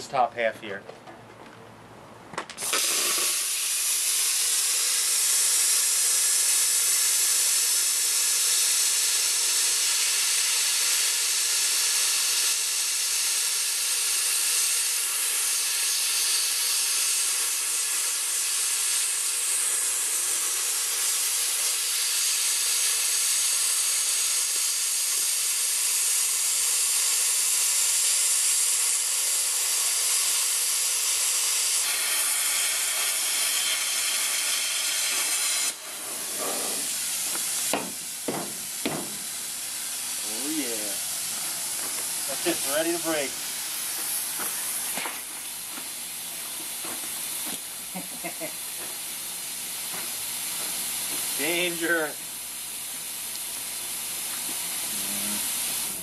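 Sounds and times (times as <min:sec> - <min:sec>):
plasma cutter hissing: 0:02.6 - 0:56.0.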